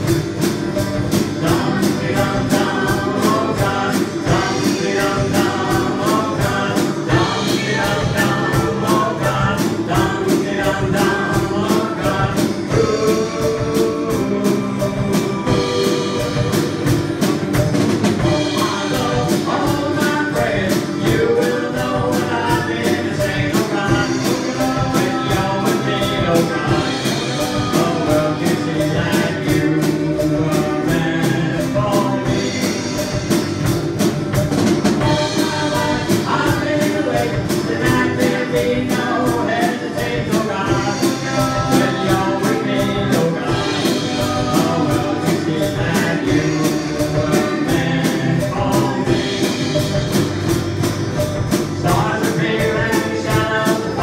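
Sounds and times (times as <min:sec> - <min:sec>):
people singing into microphones: 0:00.0 - 0:33.8, 0:34.8 - 0:54.0
band playing live: 0:00.0 - 0:54.0
steady drum beat: 0:00.0 - 0:54.0.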